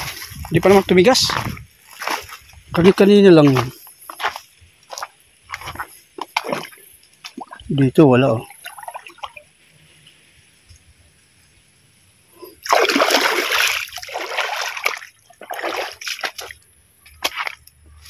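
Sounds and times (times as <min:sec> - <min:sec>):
creek water splashing: 0:00.0 - 0:10.7, 0:12.4 - 0:18.0.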